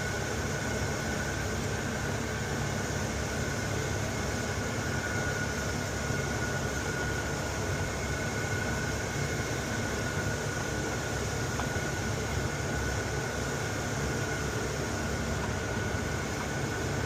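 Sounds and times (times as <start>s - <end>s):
thin steady whine: 0.0s - 17.0s.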